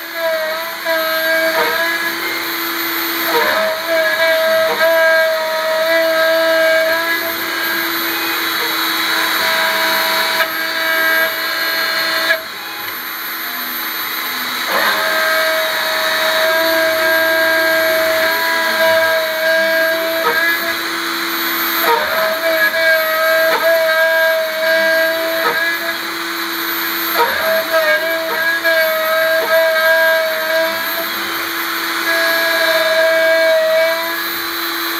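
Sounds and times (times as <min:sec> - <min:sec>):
milling cutter chattering in metal: 0:00.0 - 0:34.9
milling spindle whine: 0:00.0 - 0:34.9.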